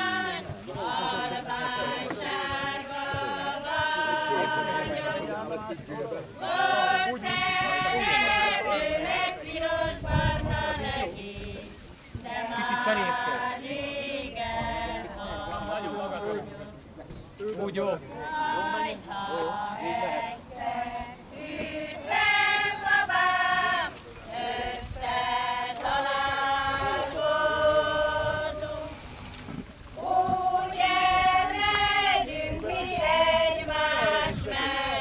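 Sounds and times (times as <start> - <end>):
women singing in unison: 0.0 - 5.8, 6.4 - 16.7, 18.2 - 29.1, 30.0 - 35.0.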